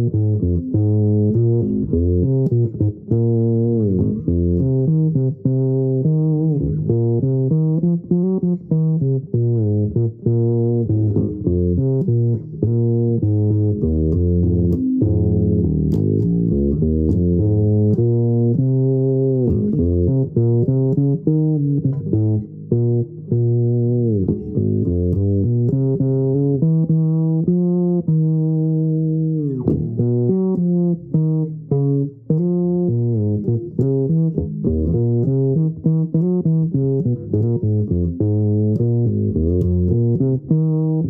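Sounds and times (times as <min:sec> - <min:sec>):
fretless bass played solo: 0:00.0 - 0:41.0.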